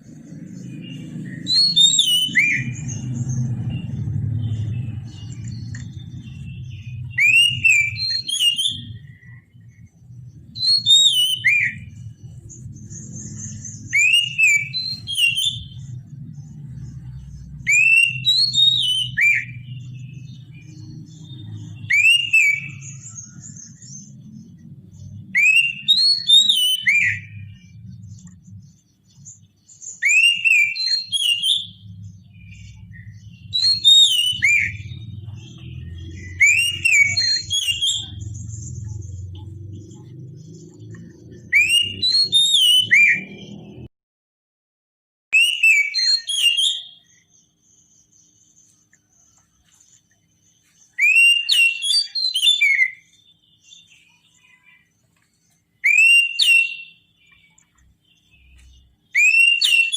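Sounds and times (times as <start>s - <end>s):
bird singing whistled notes: 0.0s - 43.9s, 45.3s - 55.0s, 55.6s - 59.9s.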